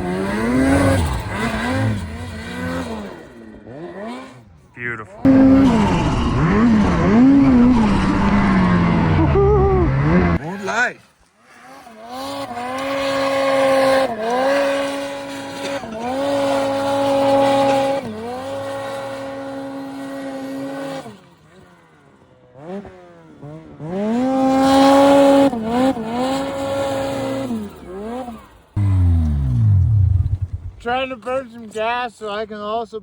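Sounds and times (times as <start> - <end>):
snowmobile engine revving: 0.0 - 31.2.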